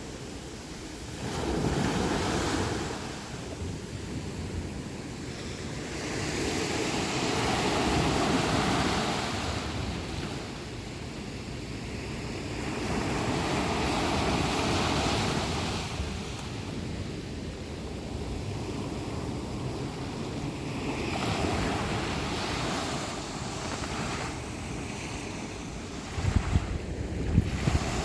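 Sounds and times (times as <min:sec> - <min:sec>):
sea waves breaking on shore: 0:00.0 - 0:28.0.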